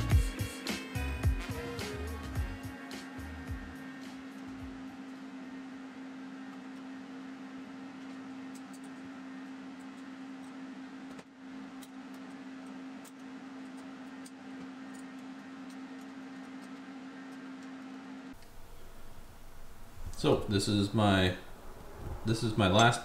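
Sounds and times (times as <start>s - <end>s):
welder electrical hum and hiss: 0.0s - 23.0s.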